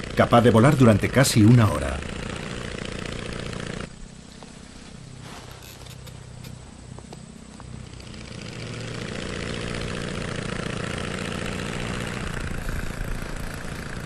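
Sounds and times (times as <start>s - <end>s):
propeller aircraft engine running: 0.0s - 14.0s.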